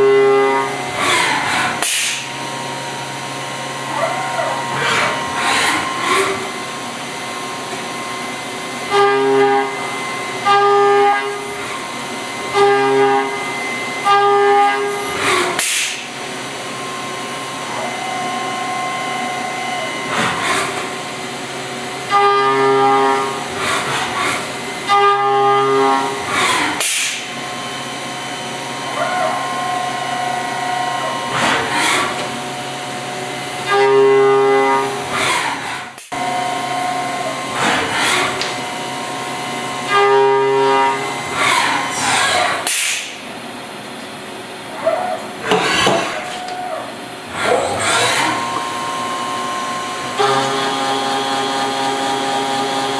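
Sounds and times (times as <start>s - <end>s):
cnc mill cutting metal: 0.0s - 52.9s.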